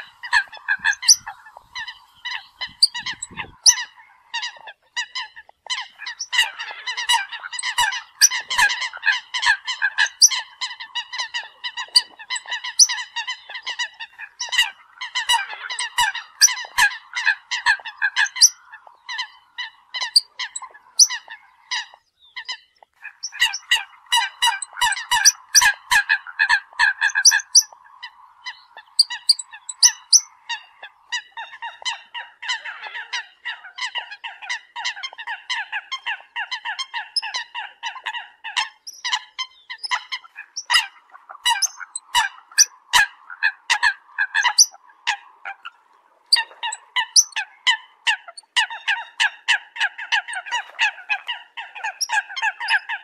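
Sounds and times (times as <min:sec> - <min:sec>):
coots calling: 0:00.0 - 0:53.0.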